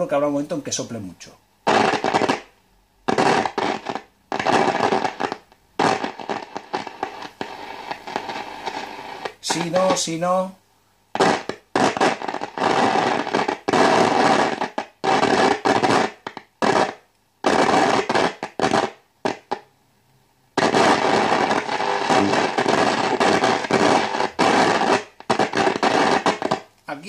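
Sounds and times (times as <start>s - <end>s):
radio static hiss and crackle: 0.0s - 19.6s, 20.6s - 27.0s.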